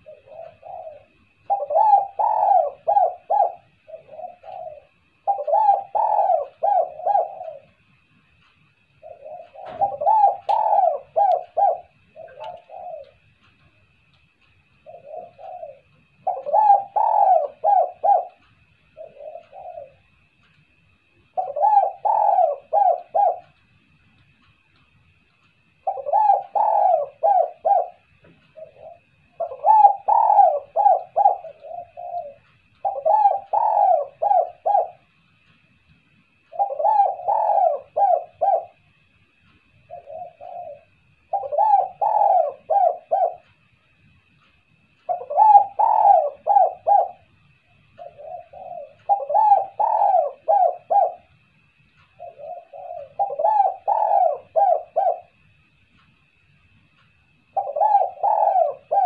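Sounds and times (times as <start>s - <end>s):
dove cooing: 0.0s - 23.6s, 25.8s - 35.6s, 36.3s - 43.7s, 44.3s - 56.4s, 57.4s - 59.0s.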